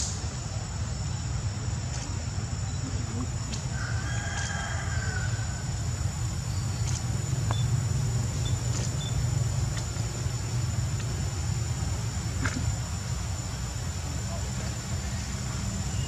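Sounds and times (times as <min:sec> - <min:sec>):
high-pitched whine: 0:00.0 - 0:16.0
low outdoor rumble: 0:00.0 - 0:16.0.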